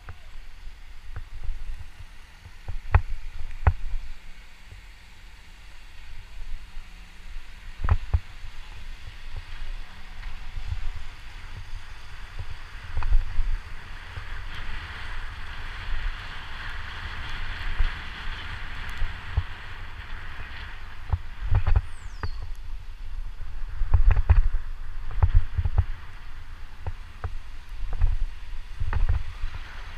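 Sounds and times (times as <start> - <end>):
vehicle driving rumble: 0.0 - 29.9.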